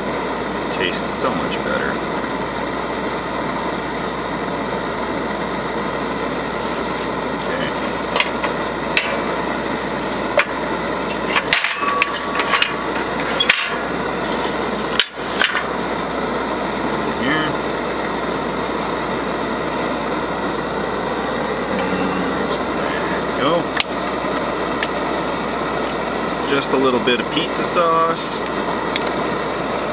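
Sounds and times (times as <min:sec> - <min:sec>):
gas stove burning with hiss: 0:00.0 - 0:29.9.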